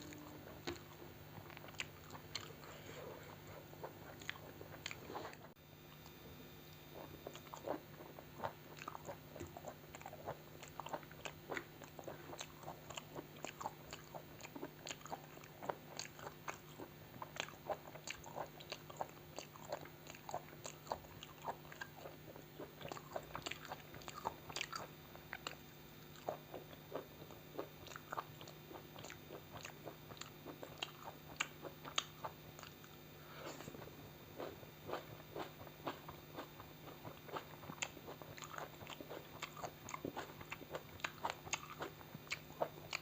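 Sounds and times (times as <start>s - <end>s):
steady low hum: 0.0s - 43.0s
wet chewing and mouth sounds: 0.0s - 43.0s.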